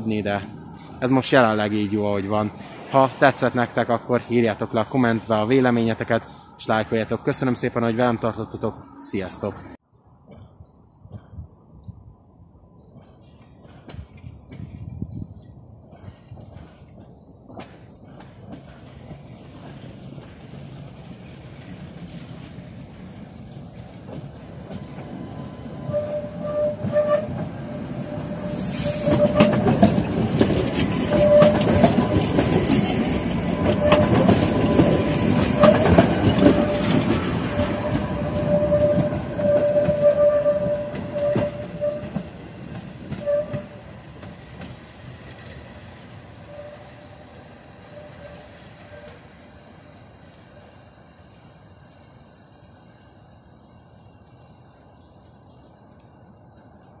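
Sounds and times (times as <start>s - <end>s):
tram wheels clattering over rail joints: 0.0s - 11.3s, 12.9s - 52.6s
tram wheel squeal: 0.0s - 56.0s.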